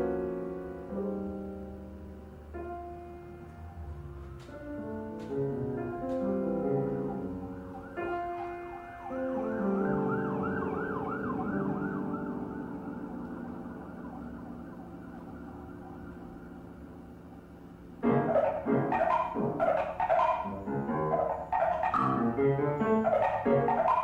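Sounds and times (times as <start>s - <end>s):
held piano chord: 0.0s - 24.0s.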